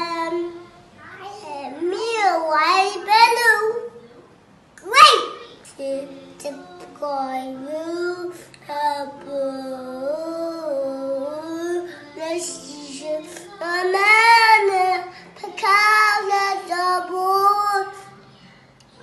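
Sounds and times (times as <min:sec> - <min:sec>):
child singing: 0:00.0 - 0:18.3.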